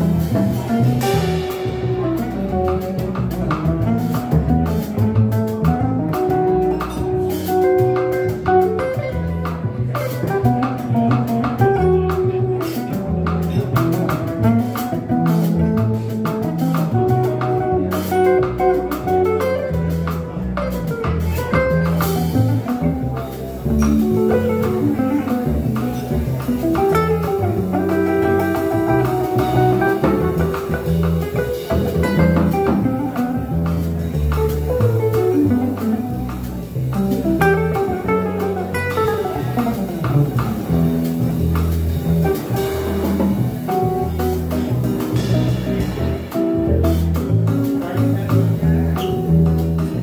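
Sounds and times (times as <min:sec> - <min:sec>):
light drums: 0:00.0 - 0:50.0
walking bass line: 0:00.0 - 0:50.0.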